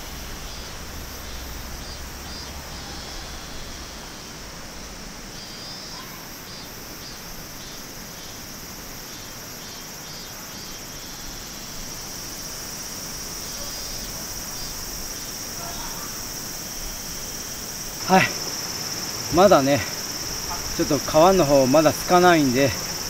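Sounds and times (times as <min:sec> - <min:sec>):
short insect chirps: 0:00.0 - 0:04.3, 0:05.3 - 0:23.0
faint hiss: 0:00.0 - 0:23.0
insects shrilling: 0:00.0 - 0:23.0.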